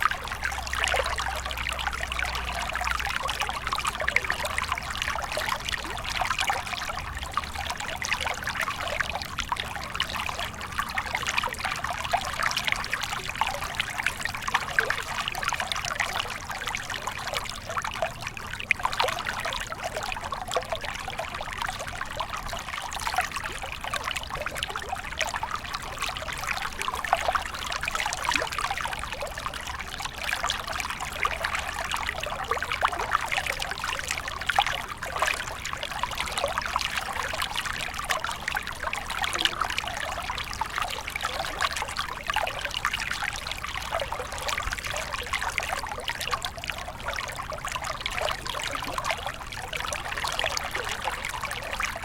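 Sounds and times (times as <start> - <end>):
stream water babbling: 0.0 - 52.0.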